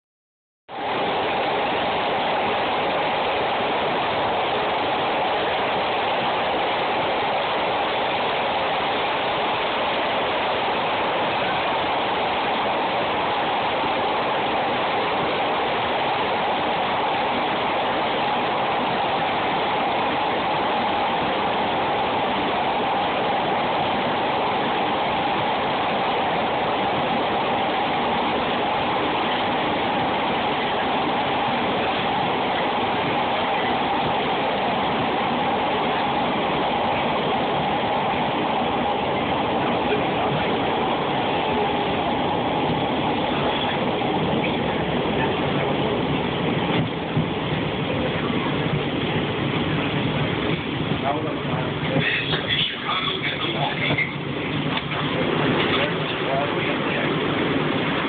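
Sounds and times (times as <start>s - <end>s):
train wheels rushing: 0.8s - 58.0s.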